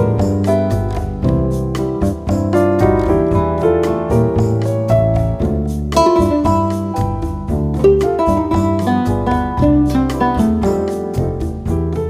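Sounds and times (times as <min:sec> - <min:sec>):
piano melody: 0:00.0 - 0:12.0
plucked guitar: 0:00.0 - 0:12.0
steady beat: 0:00.0 - 0:12.0.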